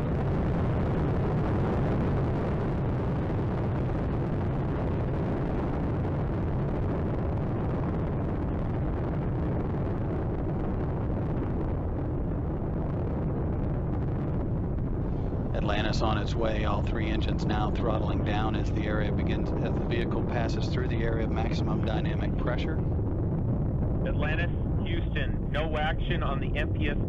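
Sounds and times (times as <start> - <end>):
rocket launch roar: 0.0 - 27.0.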